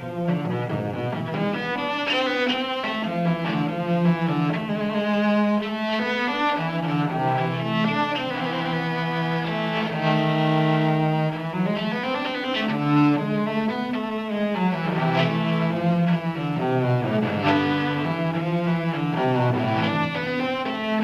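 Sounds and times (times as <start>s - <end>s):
instrumental music: 0.0s - 21.0s.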